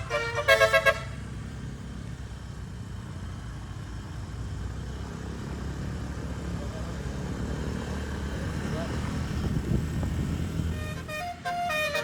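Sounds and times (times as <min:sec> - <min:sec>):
bus engine running low: 0:00.0 - 0:12.0.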